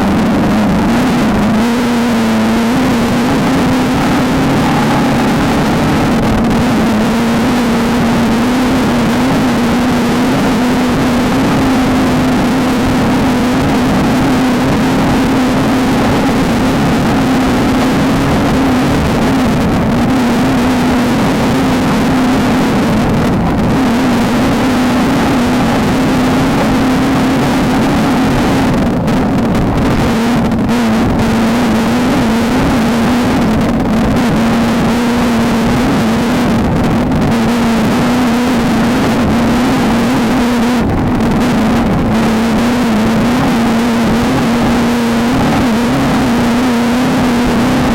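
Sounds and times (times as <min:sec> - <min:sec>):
race car engine at high revs: 0:00.0 - 0:47.9
wind noise: 0:00.0 - 0:47.9.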